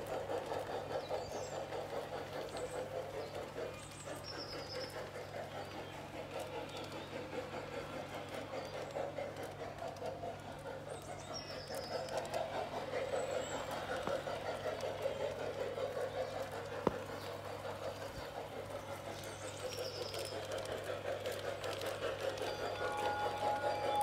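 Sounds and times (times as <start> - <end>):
model train rolling on track: 0.0 - 24.0.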